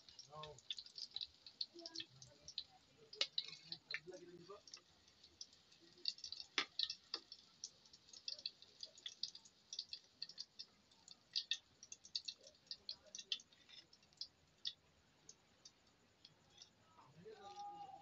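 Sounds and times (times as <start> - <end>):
oil crackling and popping in a wok: 0.0 - 18.0.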